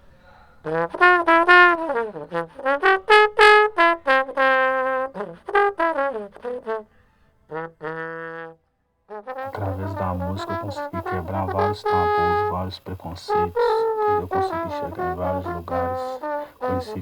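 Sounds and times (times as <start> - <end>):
trombone playing: 0.7 - 6.8, 9.4 - 17.0.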